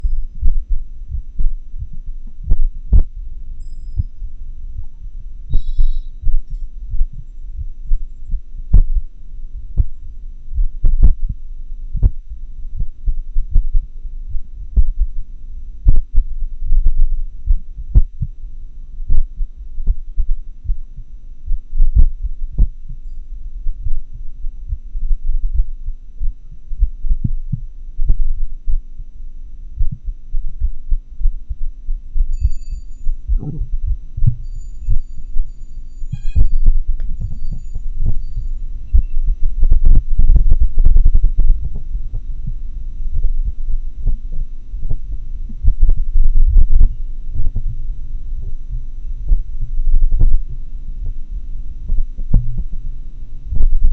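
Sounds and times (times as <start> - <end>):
irregular heartbeats: 0.0 - 53.9.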